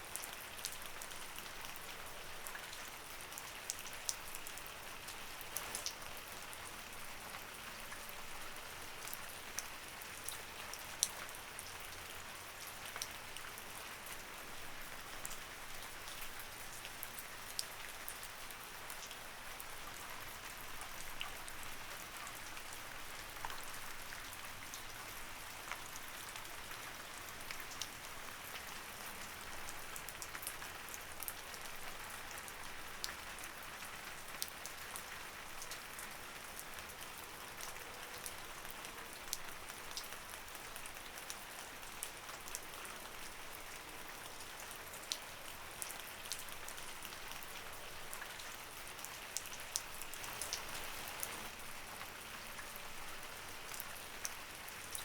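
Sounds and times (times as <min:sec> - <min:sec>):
light rain hiss: 0:00.0 - 0:55.0
raindrops ticking on a surface: 0:00.0 - 0:55.0.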